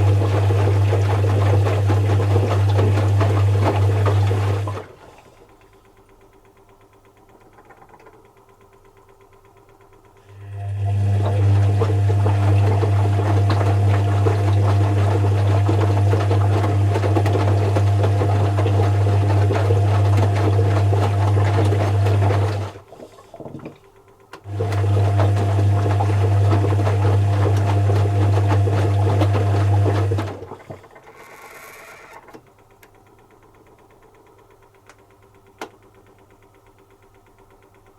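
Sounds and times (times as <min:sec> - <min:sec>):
washing machine running: 0:00.0 - 0:37.9.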